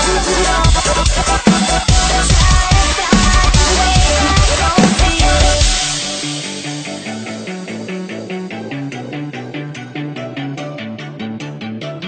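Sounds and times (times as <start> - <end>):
quick melody over bass line: 0.0 - 12.0.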